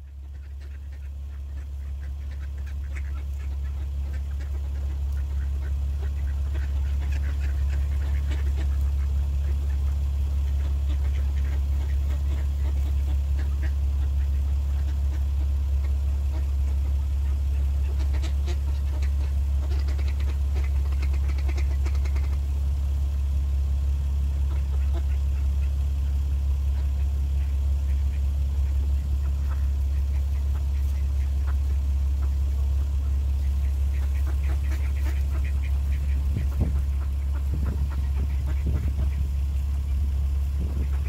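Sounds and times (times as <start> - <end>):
ducks quacking: 0.0 - 41.0
loud steady low rumble: 0.0 - 41.0.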